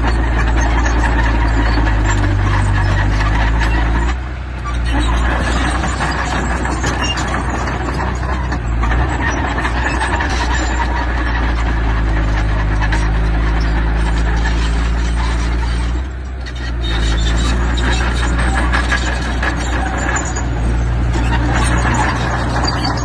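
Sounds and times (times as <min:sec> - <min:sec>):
heavy machinery diesel engine: 0:00.0 - 0:23.0.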